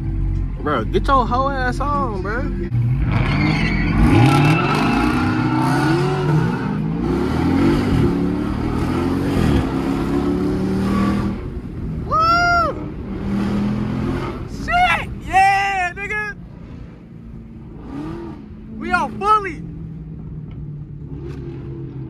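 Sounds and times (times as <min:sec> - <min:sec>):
car engine accelerating hard: 0:00.0 - 0:14.6, 0:16.6 - 0:22.0.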